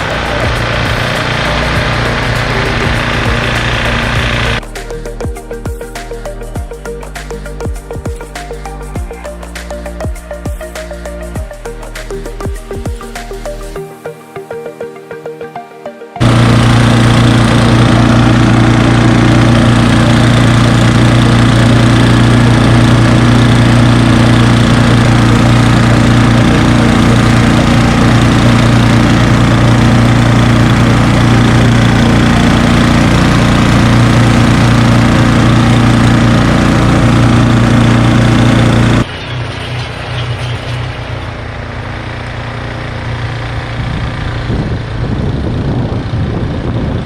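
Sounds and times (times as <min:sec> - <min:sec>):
snow blower engine running: 0:00.0 - 0:13.8, 0:16.2 - 0:40.1, 0:40.9 - 0:47.0.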